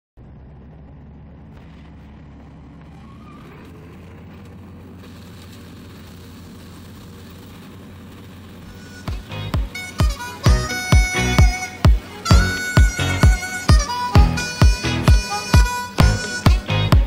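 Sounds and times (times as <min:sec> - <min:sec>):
combine harvester engine rumble: 0:00.2 - 0:17.0.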